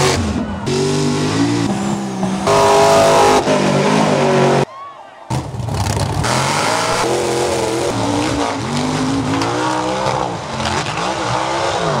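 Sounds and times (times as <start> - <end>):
truck engines revving hard: 0.0 - 4.7, 5.3 - 12.0.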